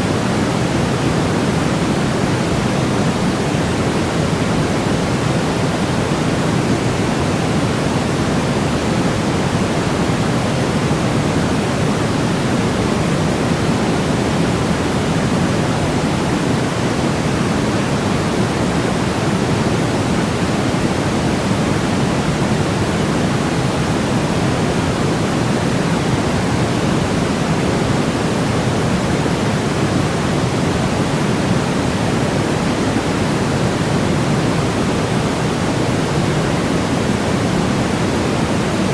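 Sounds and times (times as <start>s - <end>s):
low white noise hiss: 0.0s - 38.9s.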